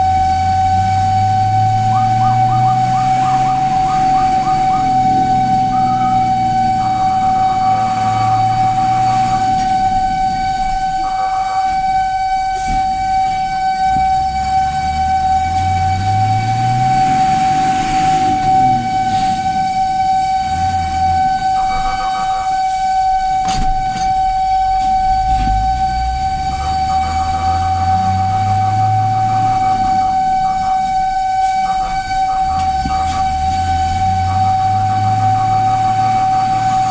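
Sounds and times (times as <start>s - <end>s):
truck engine revving: 0.0s - 11.7s, 13.9s - 22.7s, 25.1s - 36.9s
fire truck siren: 0.0s - 36.9s
pulsing warning tone: 0.0s - 36.9s.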